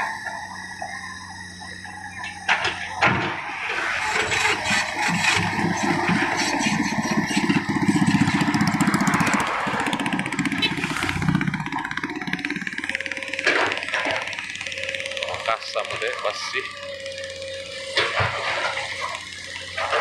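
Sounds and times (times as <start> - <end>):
excavator diesel engine under load: 0.0 - 20.0.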